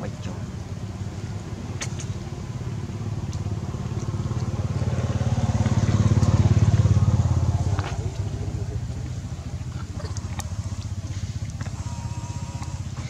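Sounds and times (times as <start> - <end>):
small vehicle engine throbbing: 0.0 - 13.0.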